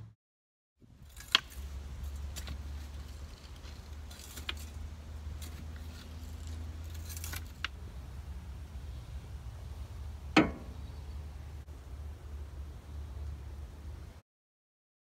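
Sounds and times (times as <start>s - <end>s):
steady low hum: 0.9s - 14.2s.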